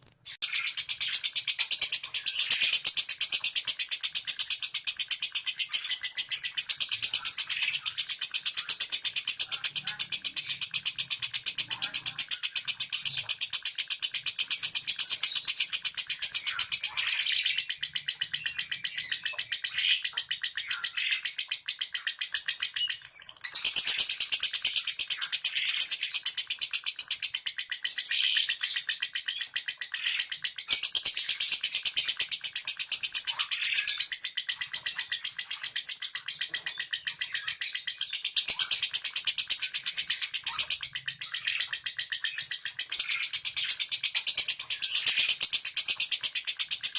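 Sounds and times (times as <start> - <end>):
bird chirps: 0.0 - 46.9
lovebird rapid clicking song: 0.0 - 46.9.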